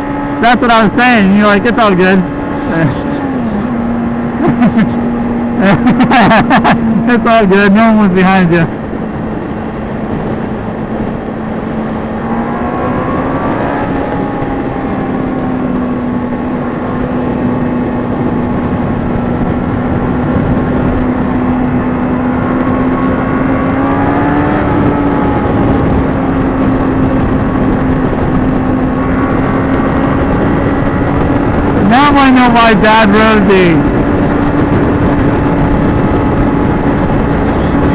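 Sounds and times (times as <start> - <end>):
motorcycle engine running: 0.0 - 37.9
wind rush: 0.0 - 37.9.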